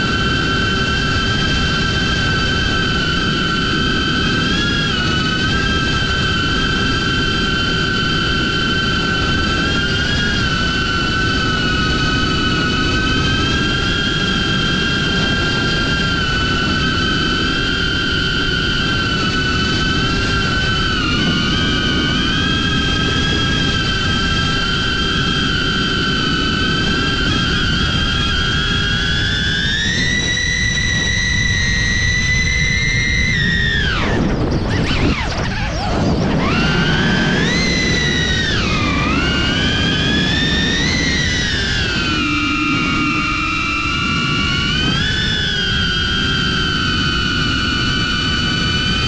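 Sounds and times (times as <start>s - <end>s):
drone propellers whining: 0.0s - 49.0s.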